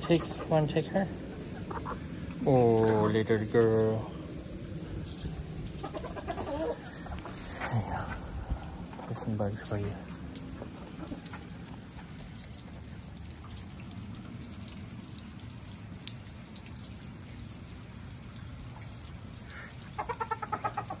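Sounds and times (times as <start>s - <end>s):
drops ticking near microphone: 0.0s - 21.0s
steady rain falling: 0.0s - 21.0s.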